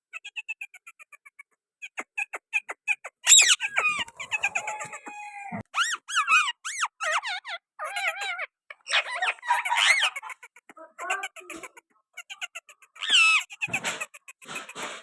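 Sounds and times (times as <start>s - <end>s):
parrots chirping and squawking: 0.1s - 15.0s.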